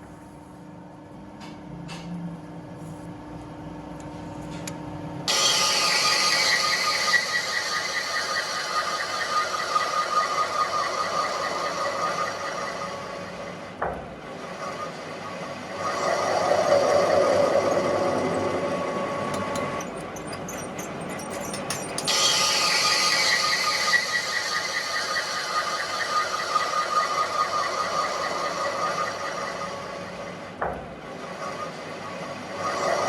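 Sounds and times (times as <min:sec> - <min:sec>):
machinery whining and grinding: 0:05.3 - 0:33.0.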